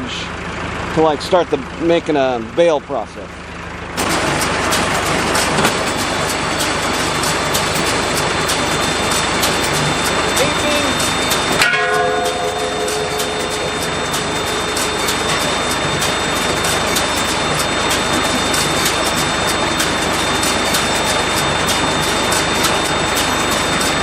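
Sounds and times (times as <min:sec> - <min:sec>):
tractor engine: 0:00.0 - 0:24.0
baler mechanical noise: 0:03.9 - 0:24.0
thin mechanical whine: 0:04.0 - 0:24.0.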